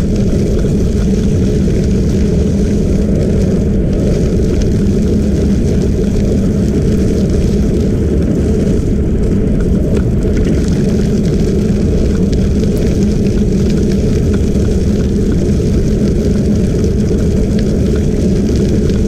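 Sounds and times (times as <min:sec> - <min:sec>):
tyres crackling on gravel: 0:00.0 - 0:19.0
wind rumble on microphone: 0:00.0 - 0:19.0.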